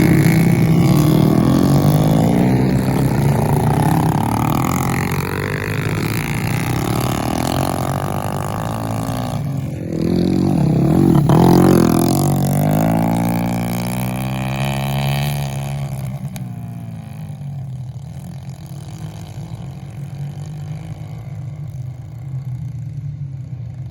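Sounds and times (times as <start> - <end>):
motorcycles passing by: 0.0 - 23.9.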